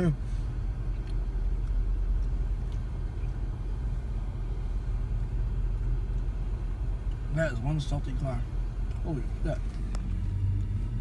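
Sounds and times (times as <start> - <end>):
car engine rumble from inside: 0.0 - 11.0.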